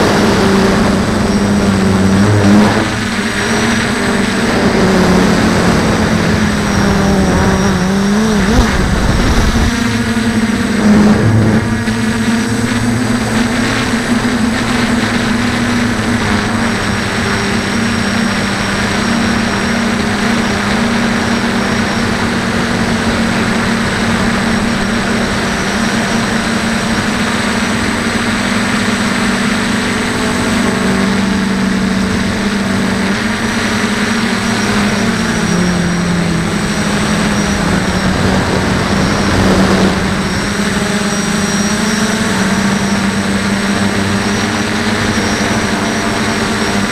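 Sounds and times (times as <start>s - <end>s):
drone propellers droning: 0.0s - 46.9s.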